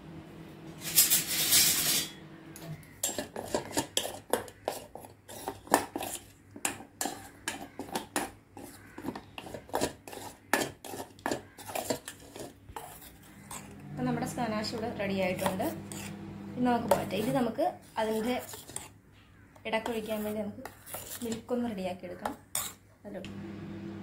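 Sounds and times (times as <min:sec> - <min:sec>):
metal spoon scraping bowl: 0:00.8 - 0:02.2, 0:02.8 - 0:19.0, 0:19.7 - 0:22.8.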